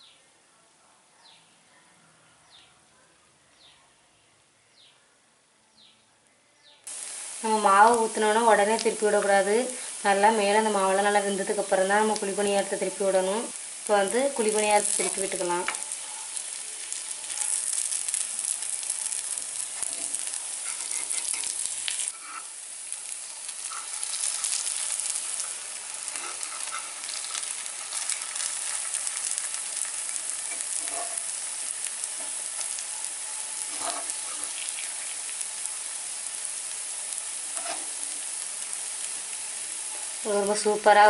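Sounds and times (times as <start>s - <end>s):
batter sizzling in oil: 6.8s - 41.0s.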